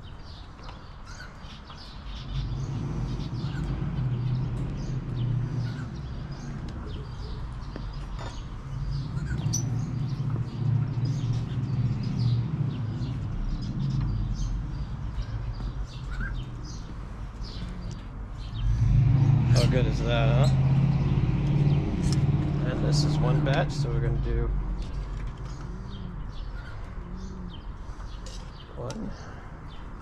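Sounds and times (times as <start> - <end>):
small birds chirping: 0.0 - 30.0
low rumble: 2.0 - 28.4.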